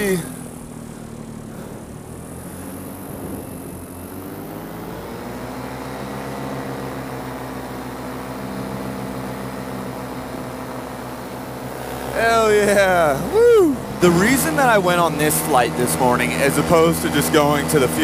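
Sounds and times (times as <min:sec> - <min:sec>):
paramotor engine running: 0:00.0 - 0:18.0.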